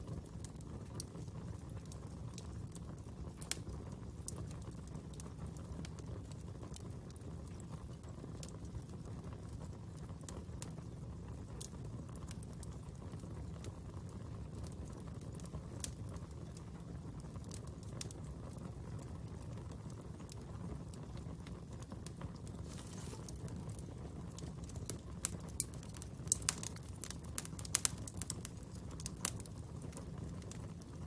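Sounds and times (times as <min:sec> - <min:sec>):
fire crackling and popping: 0:00.0 - 0:31.0.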